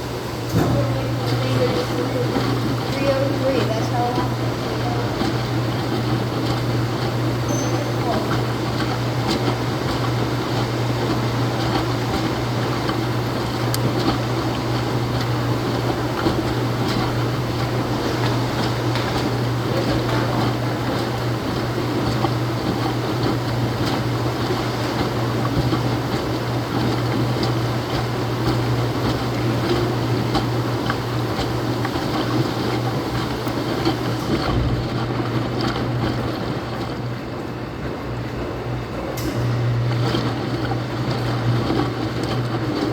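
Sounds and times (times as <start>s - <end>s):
washing machine running: 0.0s - 42.9s.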